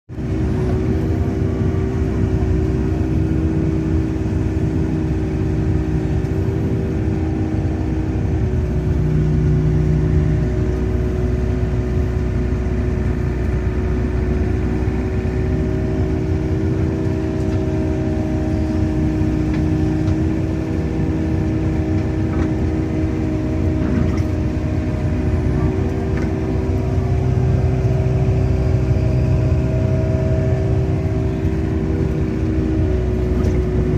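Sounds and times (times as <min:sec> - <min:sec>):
excavator diesel engine hum: 0:00.1 - 0:33.9.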